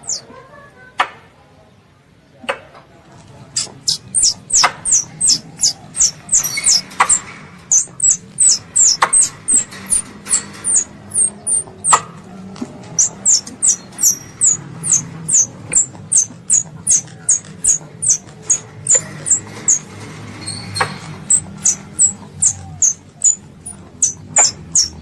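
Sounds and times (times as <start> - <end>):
young squirrel chirping: 0.0 - 0.2, 3.6 - 12.0, 12.9 - 25.0.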